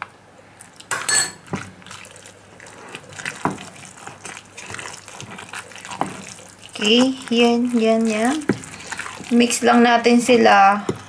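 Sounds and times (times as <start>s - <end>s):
spatula stirring wet mixture: 0.6s - 11.0s.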